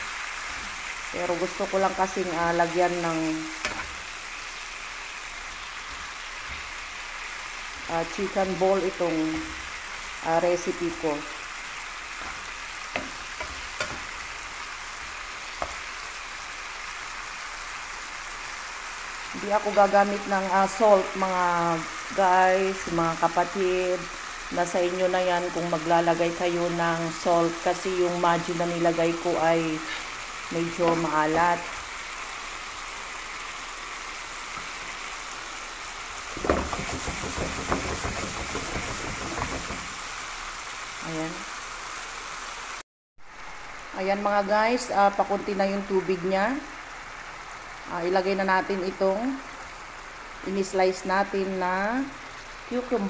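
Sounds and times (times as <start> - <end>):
food sizzling in a frying pan: 0.0 - 53.0.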